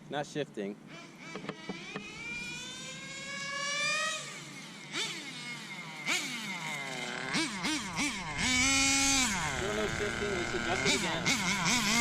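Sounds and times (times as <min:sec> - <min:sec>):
small glow engine revving: 0:00.9 - 0:12.0.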